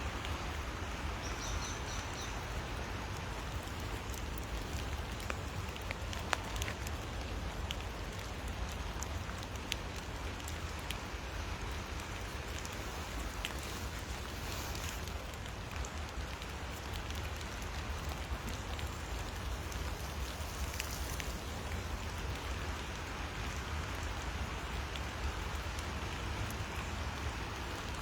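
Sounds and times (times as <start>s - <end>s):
rain hissing: 0.0s - 28.0s
raindrop ticks: 0.1s - 28.0s.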